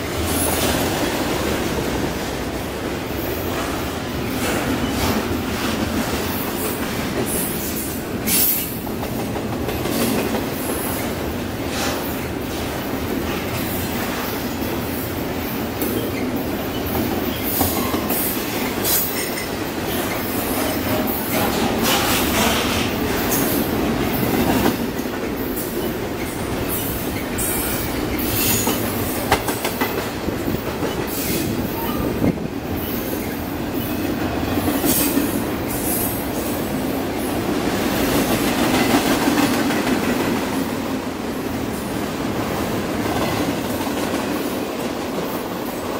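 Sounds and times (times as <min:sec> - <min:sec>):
steel wheels on rails: 0:00.0 - 0:45.9.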